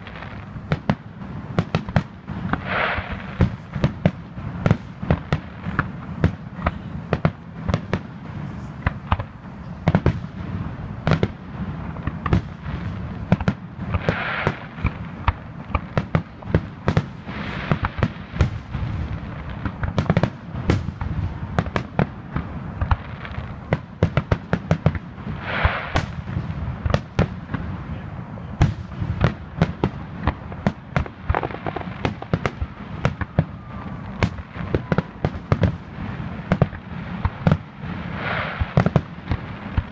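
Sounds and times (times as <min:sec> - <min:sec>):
continuous low rumble: 0:00.0 - 0:39.9
fireworks bursting: 0:00.0 - 0:39.9.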